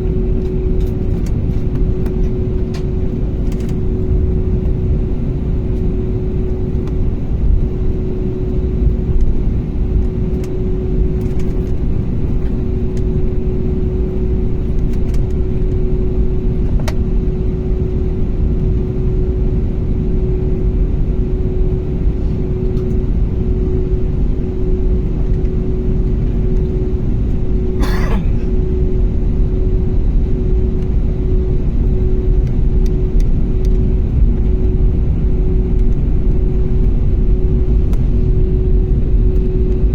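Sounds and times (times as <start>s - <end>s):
constant hum: 0.0s - 39.9s.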